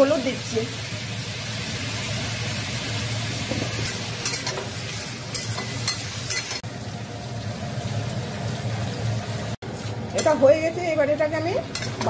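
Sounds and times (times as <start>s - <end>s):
pumpkin sizzling in hot oil: 0.0s - 12.0s.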